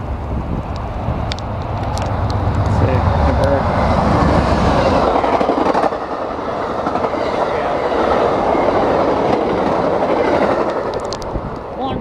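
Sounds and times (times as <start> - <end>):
locomotive engine rumble: 0.0 - 12.0
train wheels on rails: 0.0 - 12.0.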